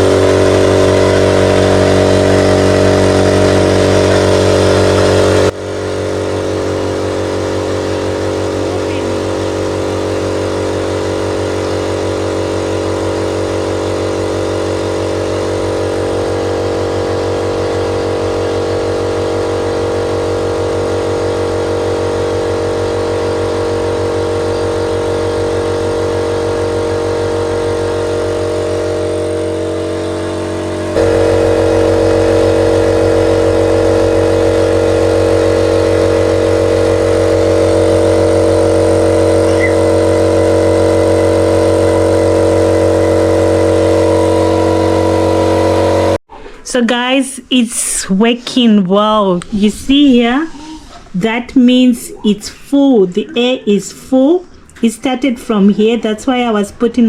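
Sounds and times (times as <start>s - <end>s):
air compressor running: 0.0s - 46.8s.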